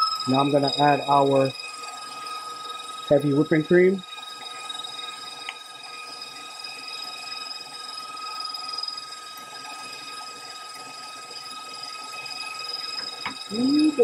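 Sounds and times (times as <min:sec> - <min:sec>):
stand mixer whining: 0:00.0 - 0:14.0.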